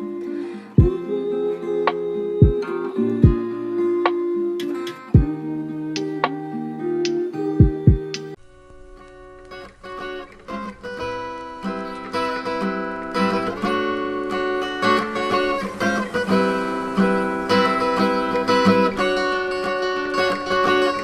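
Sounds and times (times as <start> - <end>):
plucked acoustic guitar music: 0.0 - 21.0.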